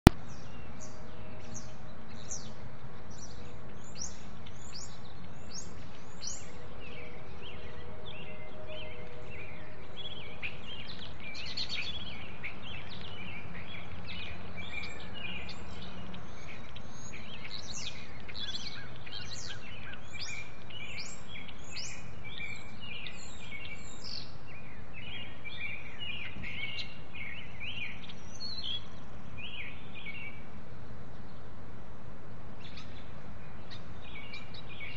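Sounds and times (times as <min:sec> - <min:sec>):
sparrows chirping: 0:00.0 - 0:31.6, 0:32.3 - 0:34.9
low background noise: 0:00.0 - 0:34.9.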